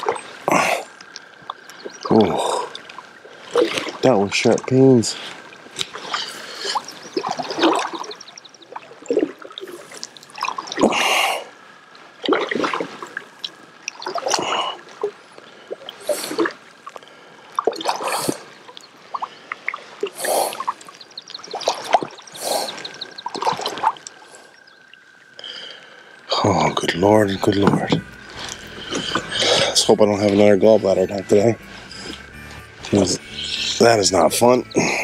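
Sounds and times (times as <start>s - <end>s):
paddle splashing water: 0.0s - 25.7s, 26.8s - 35.0s.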